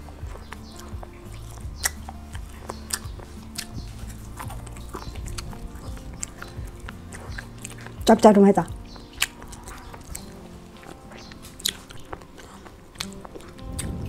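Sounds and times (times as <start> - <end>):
close chewing: 0.0 - 14.0
soft background music: 0.0 - 14.0
wet mouth clicks and smacks: 0.2 - 8.1, 8.8 - 14.0.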